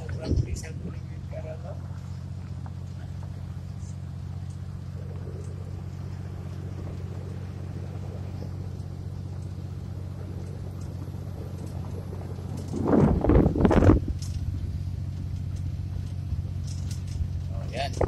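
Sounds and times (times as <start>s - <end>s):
road noise: 0.0s - 18.0s
vehicle engine droning: 0.0s - 18.0s.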